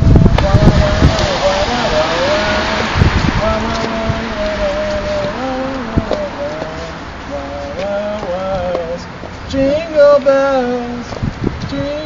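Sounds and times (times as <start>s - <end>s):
wind and traffic hiss: 0.0s - 12.0s.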